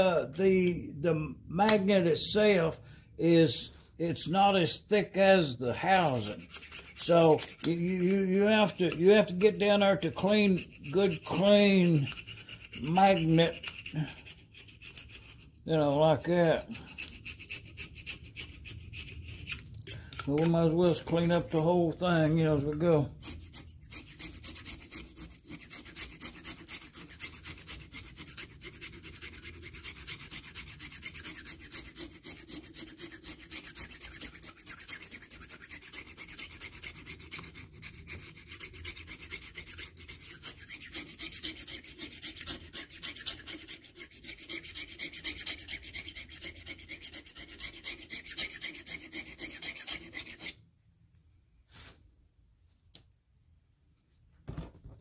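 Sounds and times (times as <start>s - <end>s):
hand tool scraping rust off iron: 5.4s - 50.6s.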